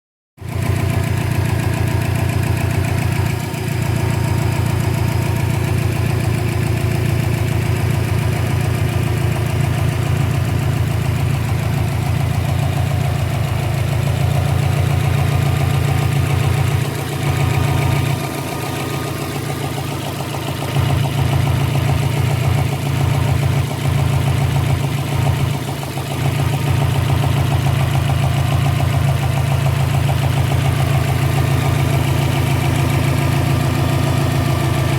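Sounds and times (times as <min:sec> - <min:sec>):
car engine idling with popping: 0:00.5 - 0:34.9.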